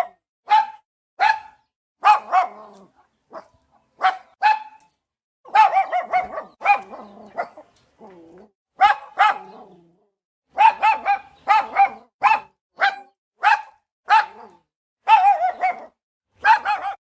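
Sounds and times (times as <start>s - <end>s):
small dog barking: 0.0s - 4.9s, 5.5s - 7.7s, 8.8s - 9.9s, 10.5s - 17.0s.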